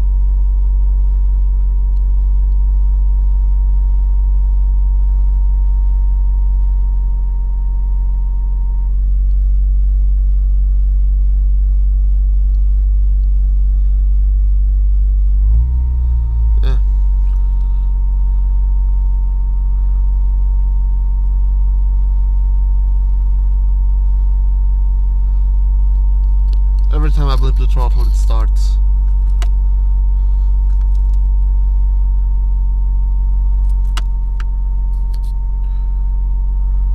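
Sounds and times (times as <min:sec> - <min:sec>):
car engine idling: 0:00.0 - 0:36.9
high electric whine: 0:00.0 - 0:36.9.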